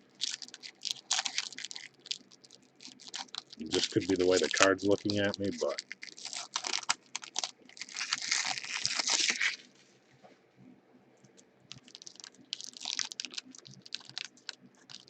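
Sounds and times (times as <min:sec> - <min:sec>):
foil wrappers crinkling and tearing: 0:00.0 - 0:09.8, 0:11.7 - 0:15.0.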